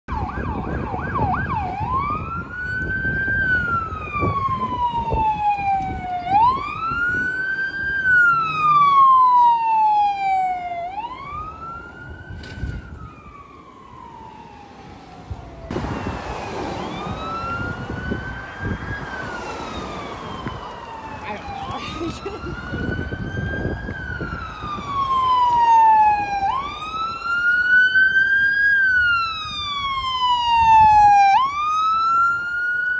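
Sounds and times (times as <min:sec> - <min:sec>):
emergency vehicle siren: 0:00.1 - 0:32.9.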